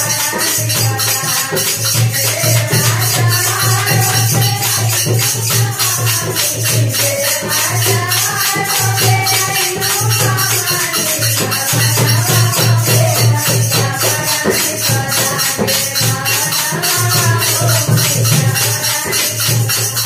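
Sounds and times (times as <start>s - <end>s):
rattling hand percussion: 0.0s - 20.0s
woman singing into microphone: 0.0s - 20.0s
women's group singing: 0.0s - 20.0s.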